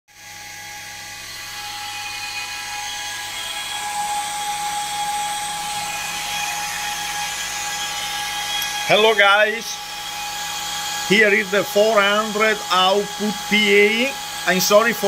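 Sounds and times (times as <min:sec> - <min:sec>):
cooling fan whining: 0:00.2 - 0:15.0.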